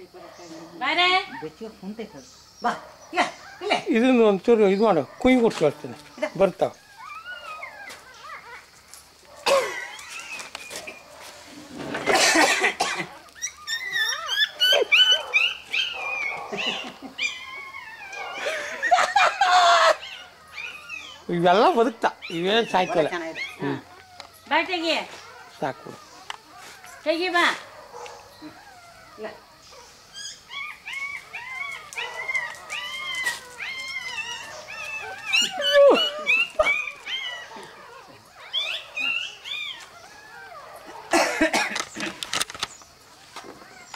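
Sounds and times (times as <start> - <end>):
puppies squealing and crying: 0.2 - 43.9.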